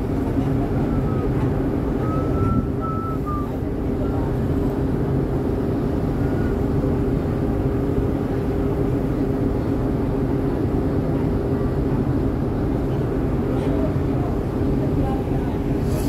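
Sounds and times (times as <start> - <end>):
ship engines humming: 0.0 - 16.0.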